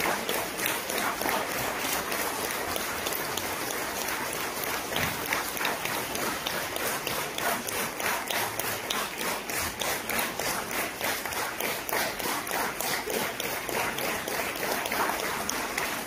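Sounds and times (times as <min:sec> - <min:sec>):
audience clapping in rhythm: 0:00.0 - 0:16.0.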